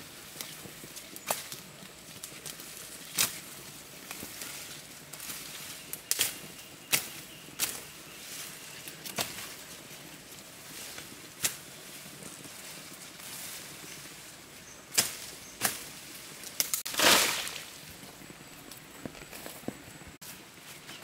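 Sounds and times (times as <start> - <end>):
faint outdoor hiss: 0.0 - 21.0.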